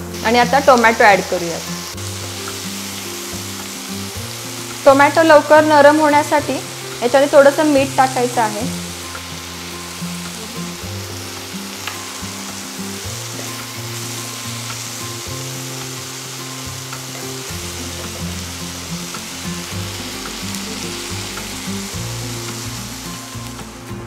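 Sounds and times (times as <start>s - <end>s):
onion and tomato sizzling in oil: 0.0s - 24.0s
soft background music: 0.0s - 24.0s.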